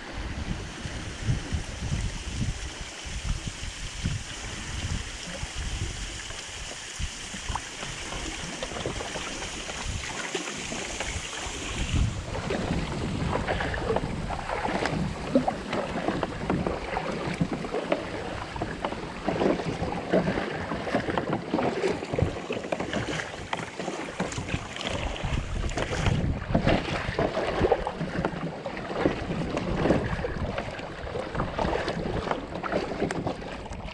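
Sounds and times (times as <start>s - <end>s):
water around kayak hull: 0.0s - 33.9s
wind buffeting microphone: 0.0s - 33.9s.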